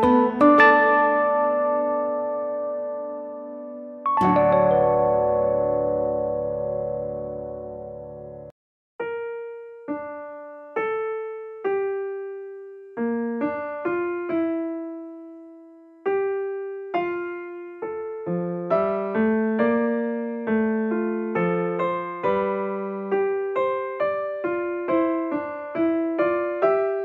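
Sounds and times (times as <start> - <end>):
slow piano piece: 0.0 - 27.0.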